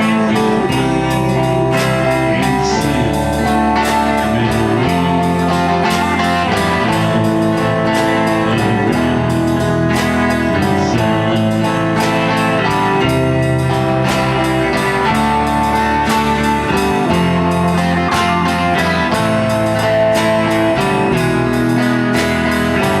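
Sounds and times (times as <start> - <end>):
band music with guitar: 0.0 - 23.0.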